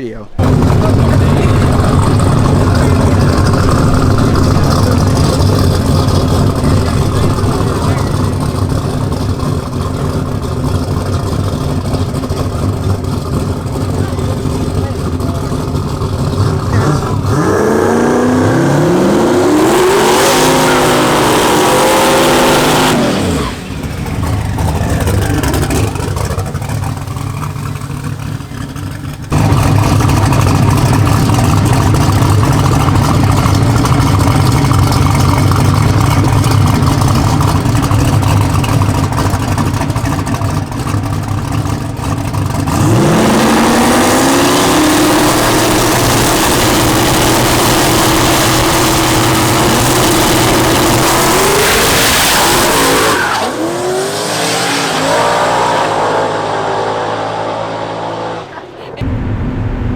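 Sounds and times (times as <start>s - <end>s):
race car engine revving: 0.2s - 59.9s.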